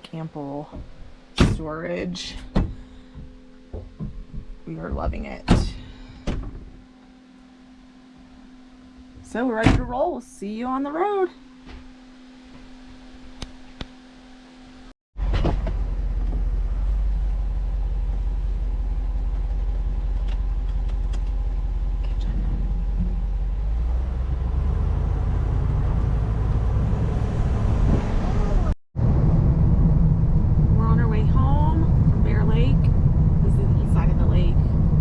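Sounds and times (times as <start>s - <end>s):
truck engine and road rumble: 0.0s - 35.0s.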